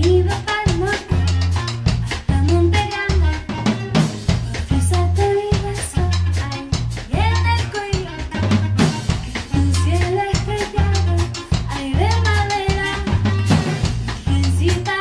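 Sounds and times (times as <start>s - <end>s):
drum kit beat: 0.0s - 15.0s
electric bass: 0.0s - 15.0s
live band music: 0.0s - 15.0s.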